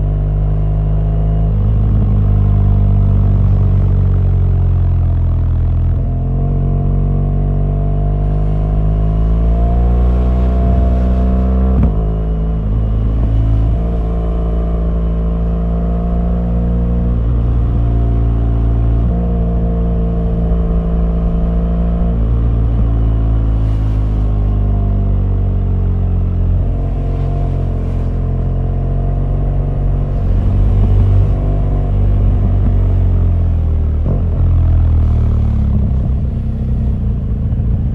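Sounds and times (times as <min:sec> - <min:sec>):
motorcycle engine revving: 0:01.3 - 0:37.9.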